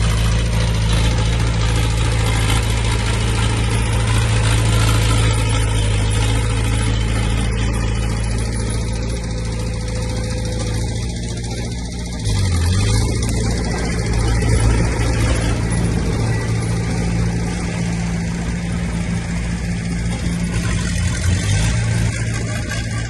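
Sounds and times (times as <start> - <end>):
heavy diesel engine under load: 0.0 - 23.0.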